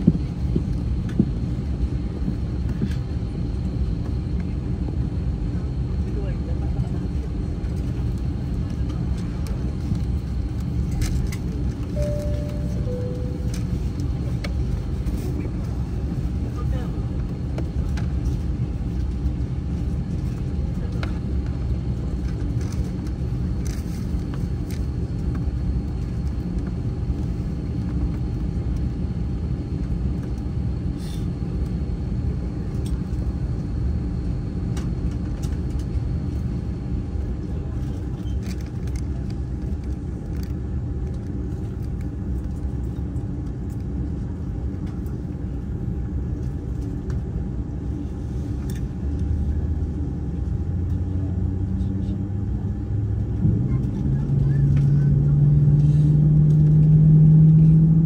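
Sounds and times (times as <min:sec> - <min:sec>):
faint steady whine: 0:00.0 - 0:51.2
airliner low rumble: 0:00.0 - 0:58.0.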